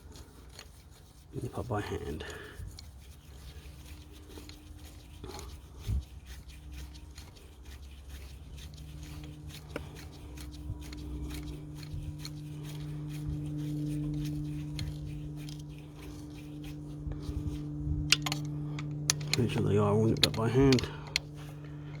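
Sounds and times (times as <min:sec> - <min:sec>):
hand tool clicks and rubbing: 0:00.0 - 0:01.2, 0:02.3 - 0:22.0
steady low hum: 0:00.0 - 0:22.0.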